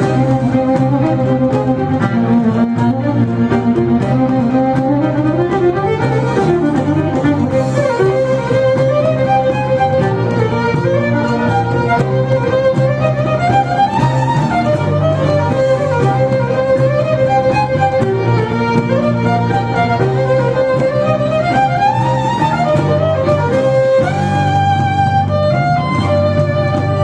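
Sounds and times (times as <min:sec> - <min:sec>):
fiddle melody: 0:00.0 - 0:27.0
low held accompanying notes: 0:00.0 - 0:27.0.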